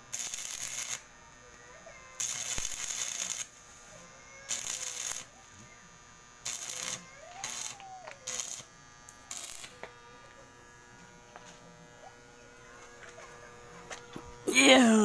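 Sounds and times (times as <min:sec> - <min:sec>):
arc welding crackling: 0:00.0 - 0:15.0.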